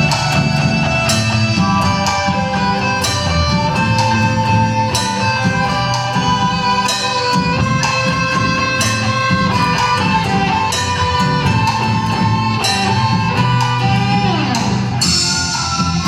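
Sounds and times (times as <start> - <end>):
band playing guitar-led music: 0.0 - 16.0
percussion hits: 0.0 - 16.0.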